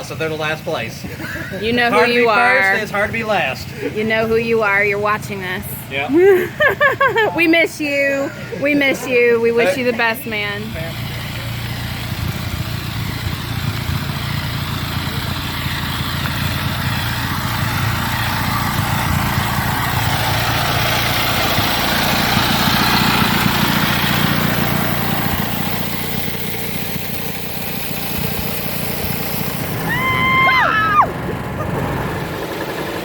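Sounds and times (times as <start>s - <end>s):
lawnmower engine running: 0.0s - 33.0s.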